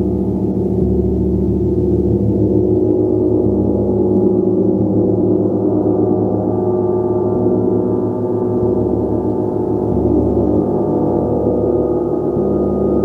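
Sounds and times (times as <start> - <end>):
gong deep sustained tones: 0.0 - 13.0.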